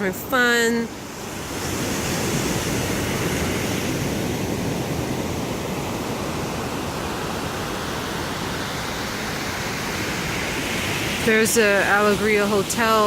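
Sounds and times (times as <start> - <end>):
ocean surf washing on beach: 0.0 - 13.0.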